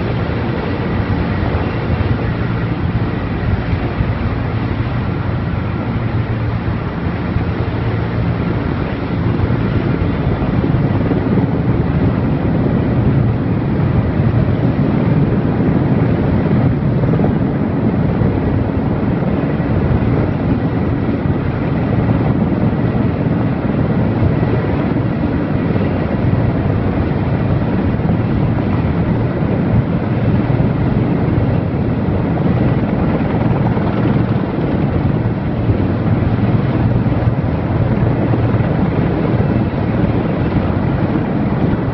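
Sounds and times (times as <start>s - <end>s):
helicopter rotor and turbine rumble: 0.0s - 41.9s.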